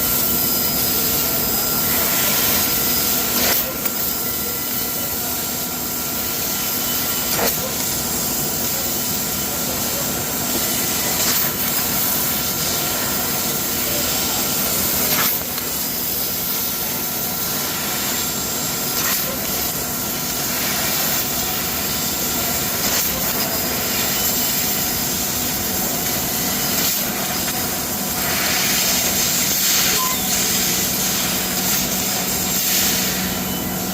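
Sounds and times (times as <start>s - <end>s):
constant machine hum: 0.0s - 33.9s
laser cutting machine hissing: 0.0s - 33.9s.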